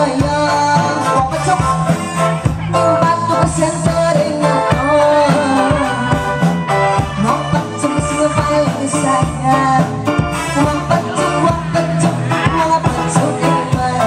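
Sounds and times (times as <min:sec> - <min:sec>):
keyboard melody: 0:00.0 - 0:14.0
steady drum beat: 0:00.0 - 0:14.0.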